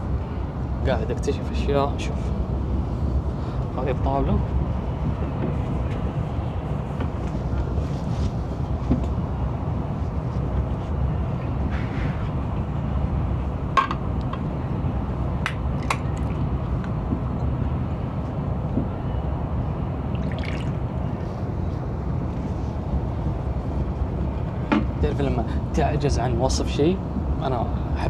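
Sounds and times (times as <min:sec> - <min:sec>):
train rumble inside cabin: 0:00.0 - 0:28.0.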